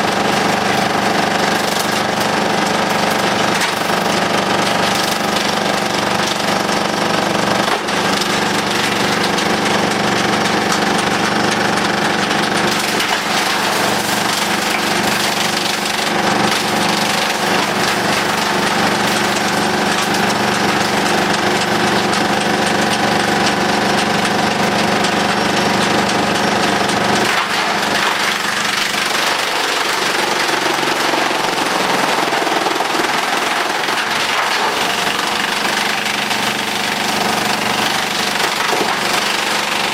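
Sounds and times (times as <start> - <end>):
wood chipper drone: 0.0 - 39.9
wood chips rattling: 0.0 - 39.9.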